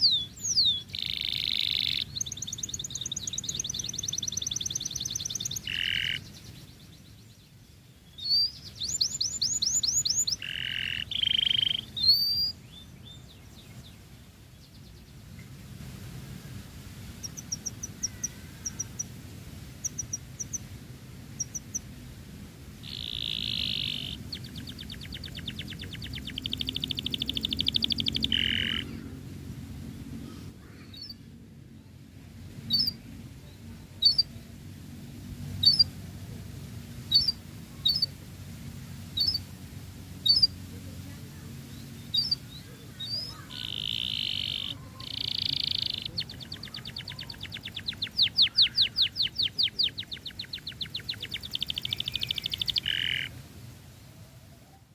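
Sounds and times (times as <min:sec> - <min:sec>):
canary singing trills: 0:00.0 - 0:15.2, 0:17.0 - 0:22.0, 0:22.8 - 0:29.3, 0:30.2 - 0:31.3, 0:32.6 - 0:34.5, 0:35.5 - 0:36.0, 0:37.1 - 0:38.2, 0:39.1 - 0:39.5, 0:40.2 - 0:40.9, 0:41.6 - 0:53.4.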